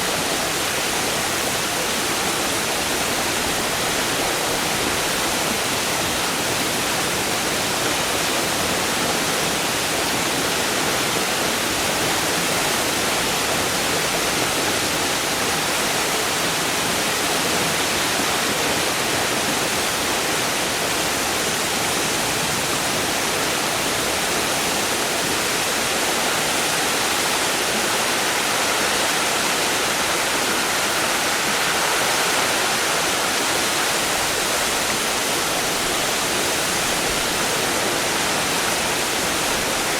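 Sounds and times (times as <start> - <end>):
waterfall hiss: 0.0 - 39.9.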